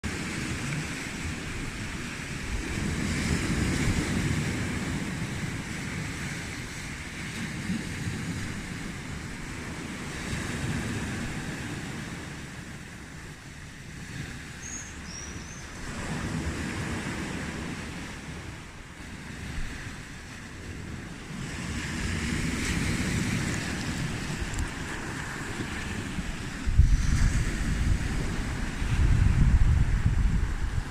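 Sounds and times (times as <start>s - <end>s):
sea waves breaking on beach: 0.0s - 30.9s.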